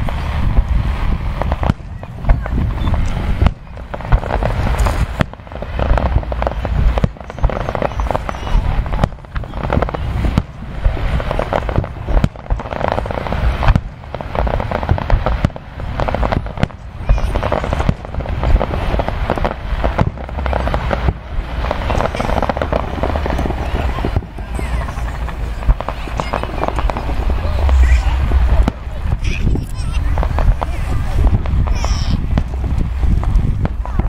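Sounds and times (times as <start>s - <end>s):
fireworks rumble and crackle: 0.0s - 34.0s
fireworks shells bursting: 0.0s - 34.0s.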